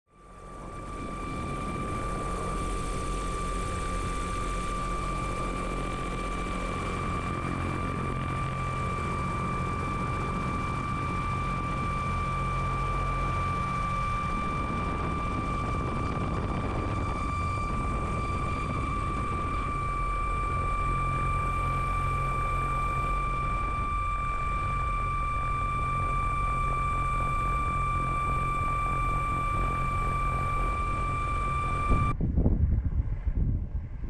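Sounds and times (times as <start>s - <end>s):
drone rotor noise with motor whine: 0.1s - 34.0s.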